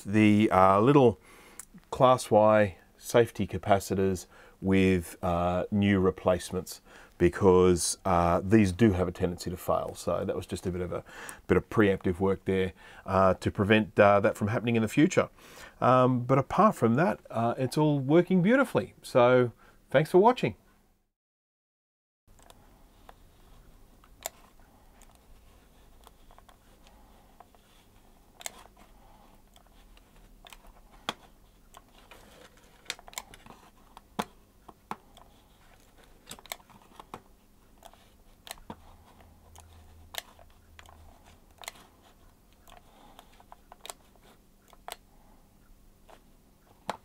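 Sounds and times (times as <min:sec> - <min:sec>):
faint steady hum: 0:00.0 - 0:21.0, 0:22.3 - 0:47.0.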